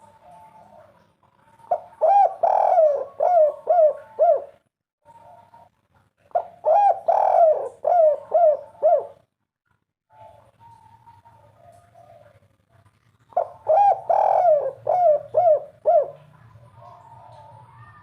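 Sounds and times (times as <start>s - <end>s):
dove cooing: 0.0s - 5.7s, 6.3s - 9.3s, 10.1s - 12.4s, 13.3s - 18.0s.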